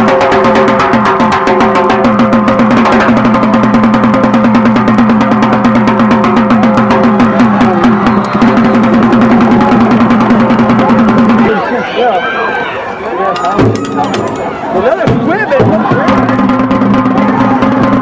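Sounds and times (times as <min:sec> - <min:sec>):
music with fast drumbeat: 0:00.0 - 0:11.6, 0:13.6 - 0:18.0.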